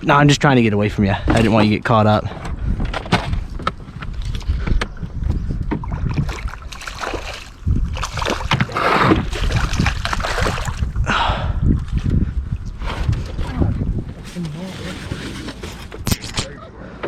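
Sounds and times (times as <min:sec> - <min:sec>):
wind buffeting microphone: 0:00.0 - 0:16.6
water moving around boat: 0:01.2 - 0:16.3.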